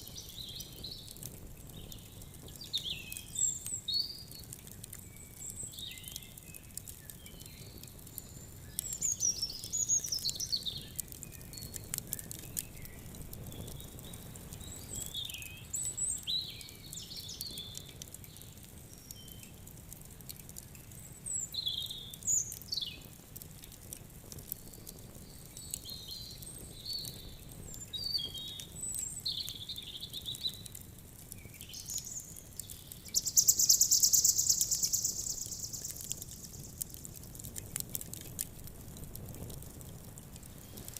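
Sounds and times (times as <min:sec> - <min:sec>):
songbirds chirping: 0:00.0 - 0:19.7, 0:20.3 - 0:23.7, 0:24.5 - 0:37.9
campfire crackling: 0:00.0 - 0:40.9.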